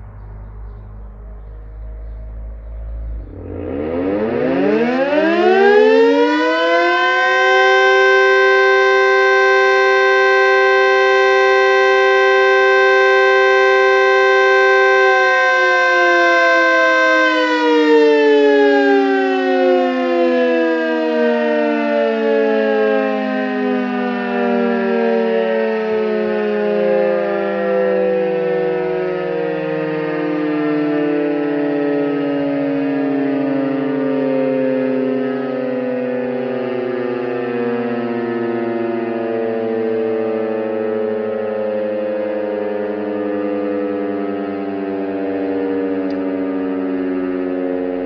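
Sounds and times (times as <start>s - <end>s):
civil defence sirens wailing: 0.0s - 48.0s.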